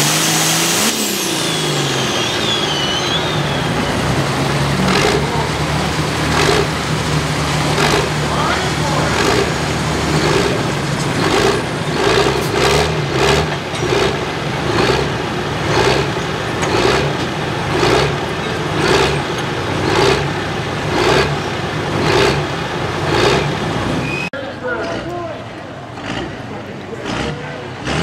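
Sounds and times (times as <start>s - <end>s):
diesel tractor running under load: 0.0s - 28.0s.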